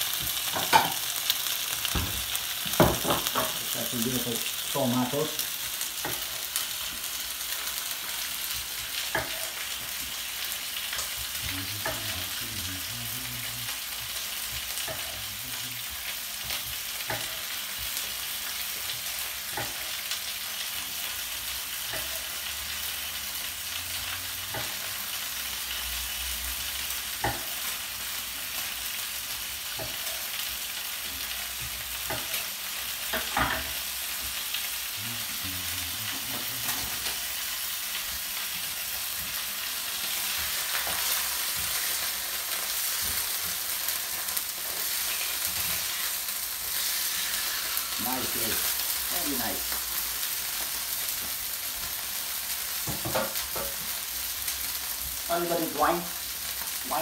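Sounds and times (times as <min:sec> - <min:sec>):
fish sizzling in a frying pan: 0:00.0 - 0:57.0.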